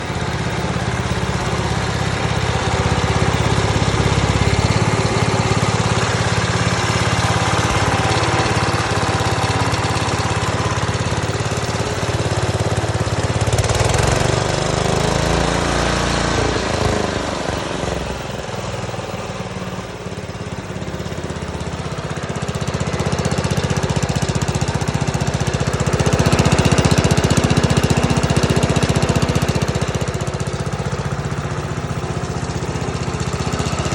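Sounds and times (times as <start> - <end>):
concrete saw engine running: 0.0 - 33.9.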